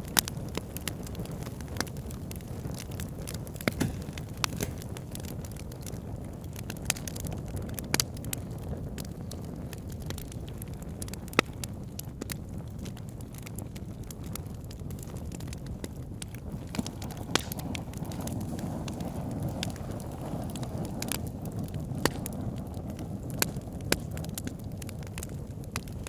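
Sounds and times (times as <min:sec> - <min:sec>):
fire snapping and popping: 0:00.0 - 0:26.0
low rush of flames: 0:00.0 - 0:26.0.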